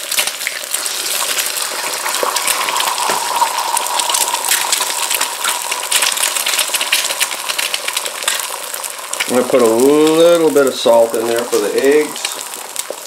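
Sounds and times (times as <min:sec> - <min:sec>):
eggs sizzling in hot oil: 0:00.0 - 0:13.0.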